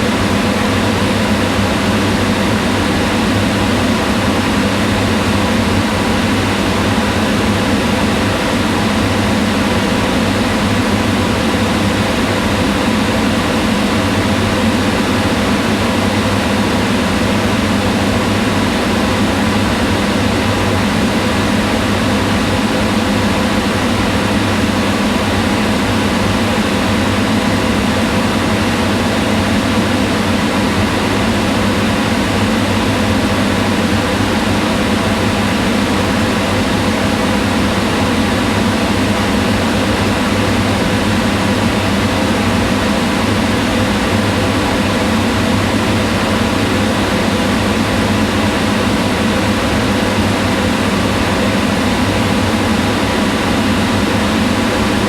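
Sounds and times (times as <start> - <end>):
range hood fan running: 0.0 - 55.0.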